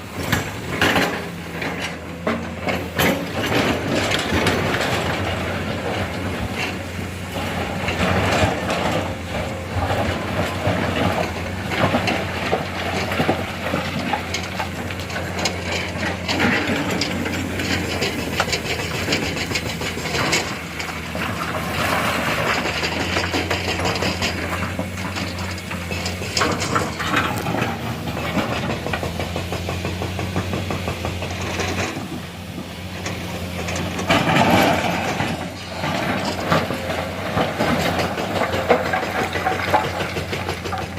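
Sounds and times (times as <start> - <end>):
excavator diesel engine running: 0.0 - 40.9
clanks of rock and metal: 0.1 - 40.9.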